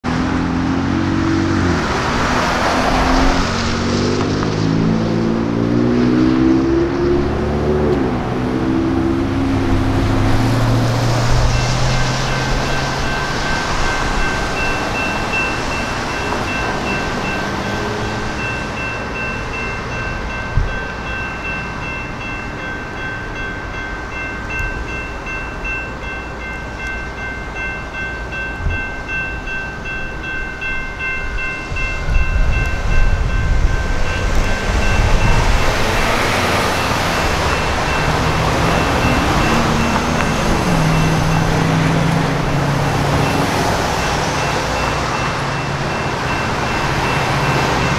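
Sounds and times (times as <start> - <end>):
passing train rumble: 0.0 - 47.9
road traffic noise: 0.0 - 47.9
crossing bell dinging: 7.2 - 47.9.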